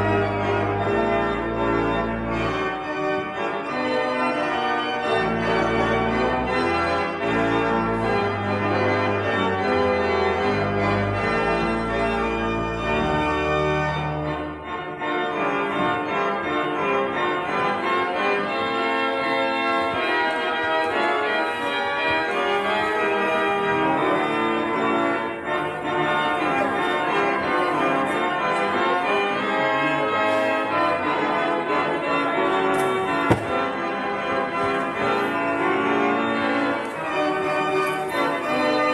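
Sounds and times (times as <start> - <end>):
church organ chords: 0.0 - 38.9.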